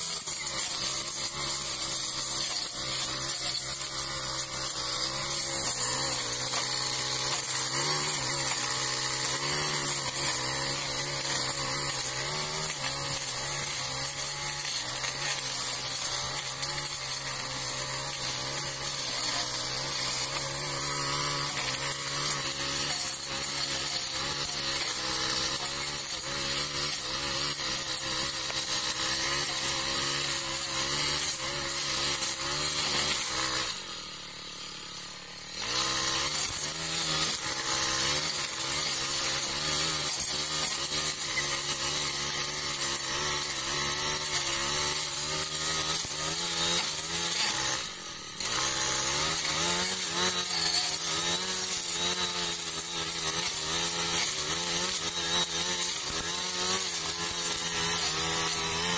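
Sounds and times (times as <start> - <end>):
brush cutter engine running: 0.0 - 58.9.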